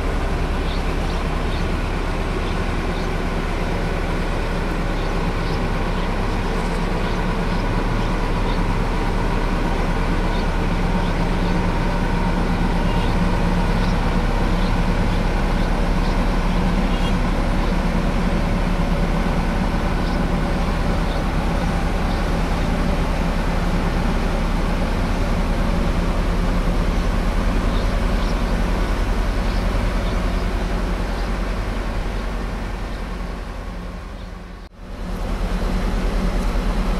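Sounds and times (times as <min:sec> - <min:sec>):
large engine running steadily: 0:00.0 - 0:36.9.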